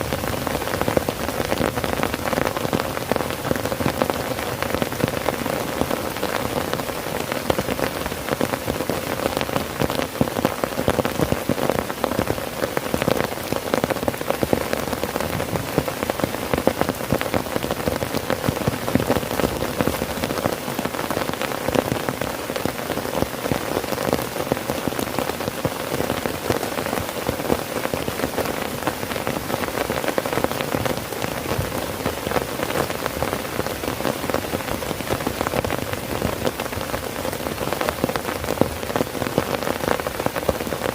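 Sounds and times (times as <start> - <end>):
heavy rain on tent fabric: 0.0 - 40.9.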